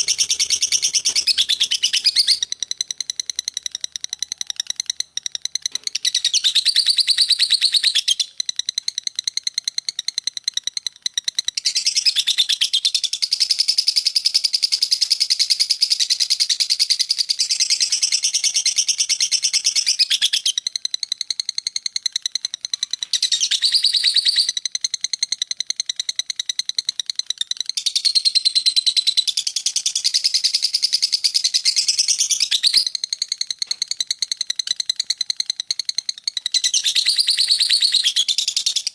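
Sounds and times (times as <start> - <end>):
bird chattering trill: 0.0 - 38.9.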